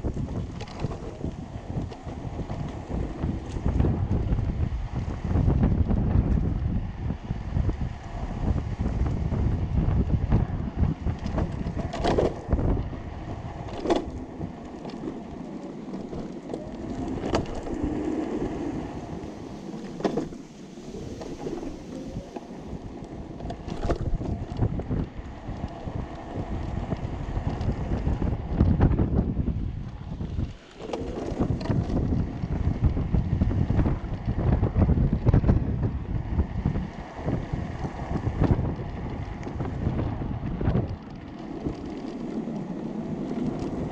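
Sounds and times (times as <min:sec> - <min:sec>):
go-kart rolling on pavement: 0:00.0 - 0:43.9
wind buffeting microphone: 0:00.0 - 0:43.9.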